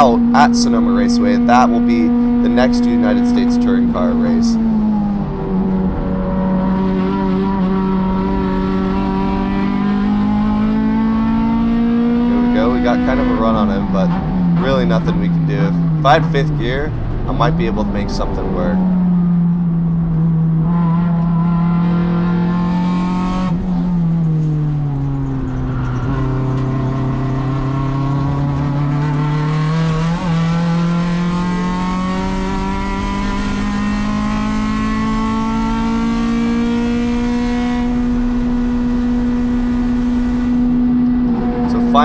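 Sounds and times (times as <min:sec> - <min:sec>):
race car engine running hard: 0:00.0 - 0:42.0.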